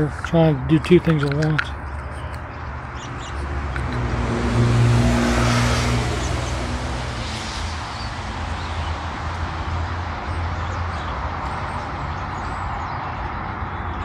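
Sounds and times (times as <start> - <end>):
vehicle passing by: 2.6 - 14.0.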